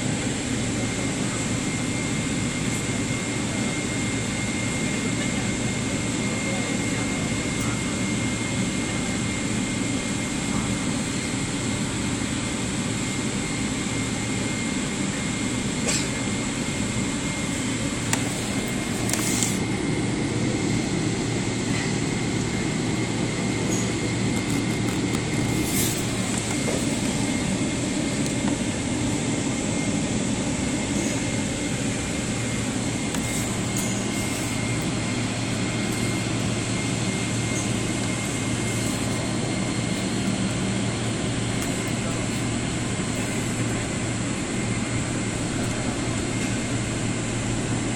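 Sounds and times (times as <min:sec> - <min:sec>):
airliner cabin engine rush: 0:00.0 - 0:47.9.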